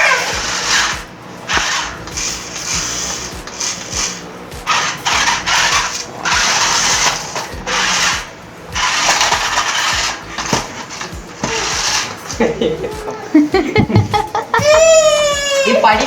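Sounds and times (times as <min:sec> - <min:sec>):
toy electric motor whirring: 0:00.0 - 0:16.0.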